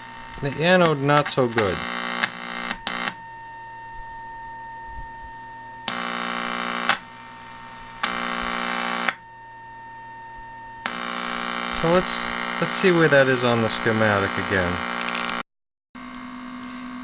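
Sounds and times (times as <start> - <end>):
loud harsh buzz: 0.0 - 15.4
weak steady test tone: 0.0 - 15.4.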